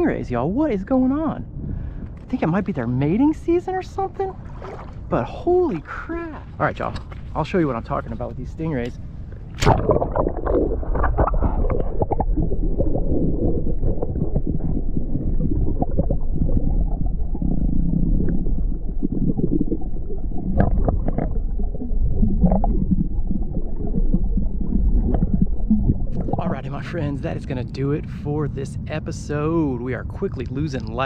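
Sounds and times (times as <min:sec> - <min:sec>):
underwater rumble and gurgling: 0:00.0 - 0:31.0.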